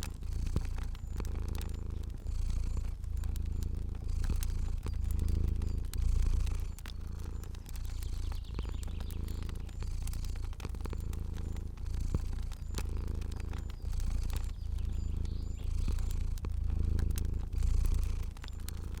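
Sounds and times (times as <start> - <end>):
cat purring: 0.0 - 19.0
fire crackling and popping: 0.0 - 19.0.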